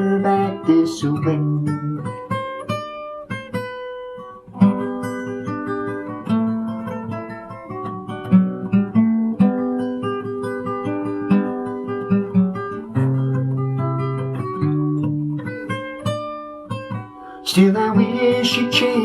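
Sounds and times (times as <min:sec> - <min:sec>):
fingerpicked acoustic guitar: 0:00.0 - 0:19.0.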